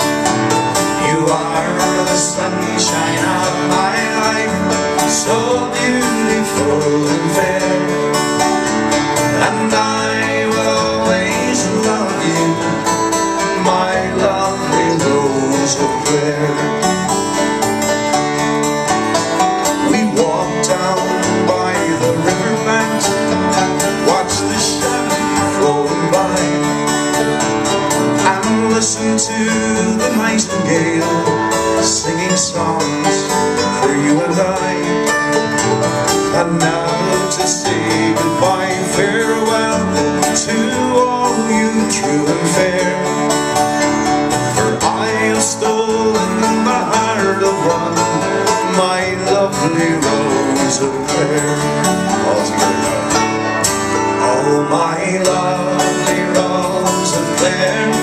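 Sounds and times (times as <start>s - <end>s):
acoustic guitar strumming: 0.0s - 58.0s
picked banjo: 0.0s - 58.0s.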